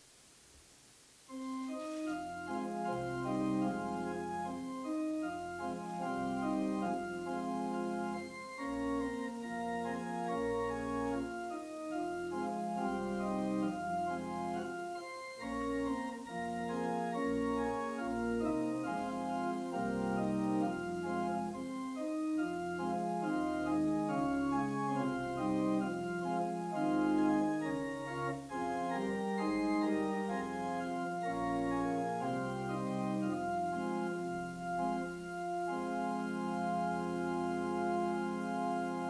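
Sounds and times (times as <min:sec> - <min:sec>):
church organ playing held chords: 0:01.3 - 0:39.0.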